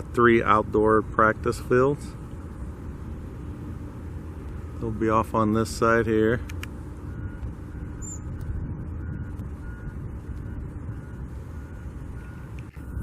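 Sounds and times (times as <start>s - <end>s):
engines and traffic rumble: 0.0s - 13.0s
vehicle backup alarm beeping: 2.1s - 13.0s.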